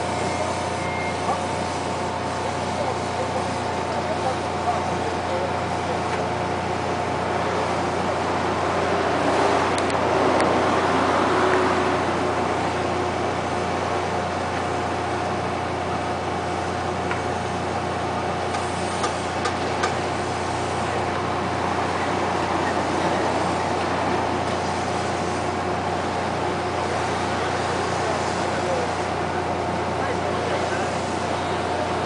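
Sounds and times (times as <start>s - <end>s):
boat machinery droning: 0.0s - 32.0s.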